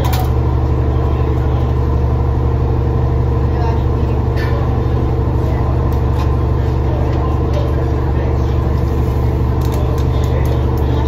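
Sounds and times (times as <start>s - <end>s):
boat engine low drone: 0.0s - 11.0s.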